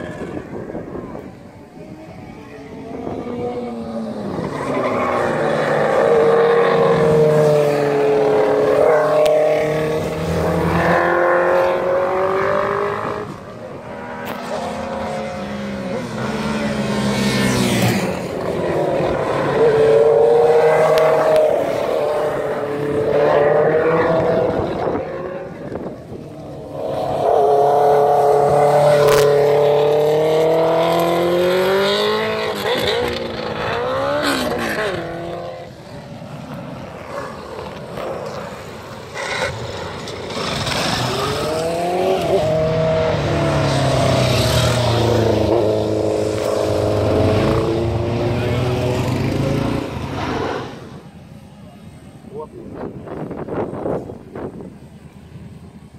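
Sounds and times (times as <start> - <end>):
motorcycles passing: 0.0 - 55.9.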